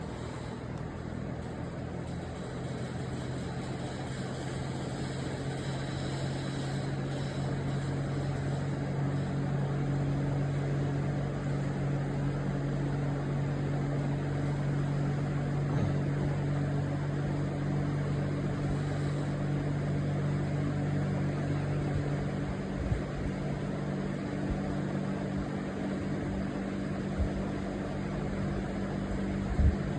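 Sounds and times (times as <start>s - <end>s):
box fan running: 0.0s - 29.9s.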